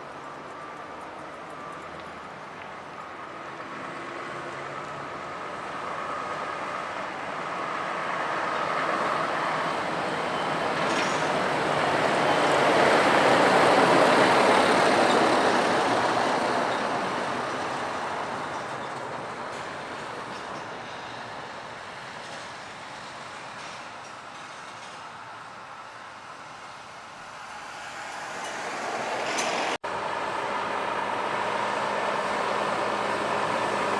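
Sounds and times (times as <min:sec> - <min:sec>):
heavy vehicle passing by: 0:03.1 - 0:33.9.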